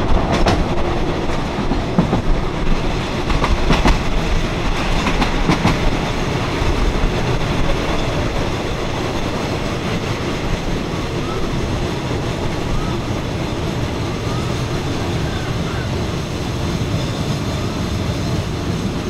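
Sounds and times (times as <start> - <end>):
wheels clicking over rail joints: 0.0 - 16.2
train rumbling on track: 0.0 - 19.0.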